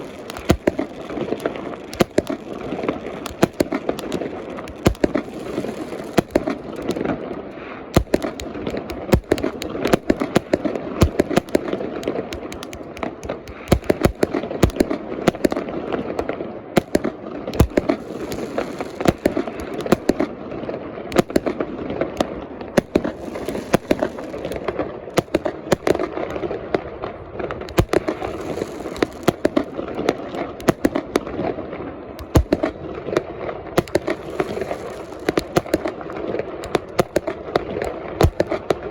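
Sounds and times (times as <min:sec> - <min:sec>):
crackling din: 0:00.0 - 0:20.4, 0:22.2 - 0:27.0, 0:27.6 - 0:31.4, 0:33.8 - 0:38.9
fireworks bangs and pops: 0:00.0 - 0:38.9.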